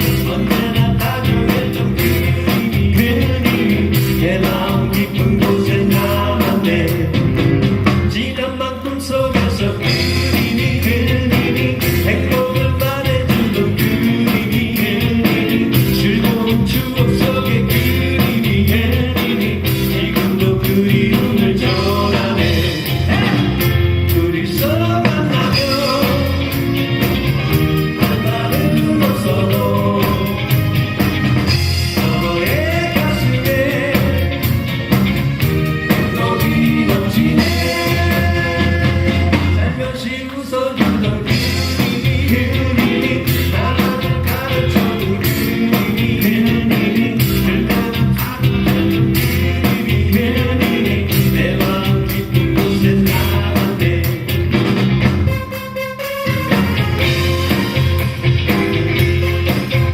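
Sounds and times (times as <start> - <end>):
man singing lead vocals: 0.0 - 55.1
live band playing pop song: 0.0 - 59.9.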